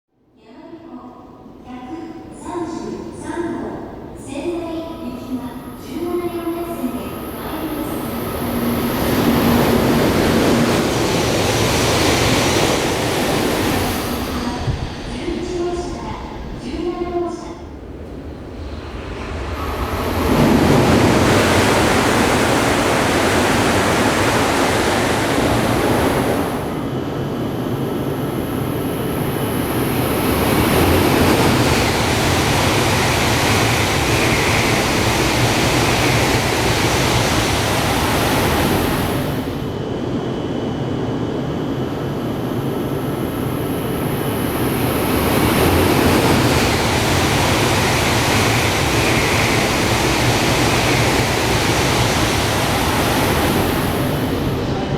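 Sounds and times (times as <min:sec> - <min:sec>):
train rushing: 0:02.3 - 0:54.9.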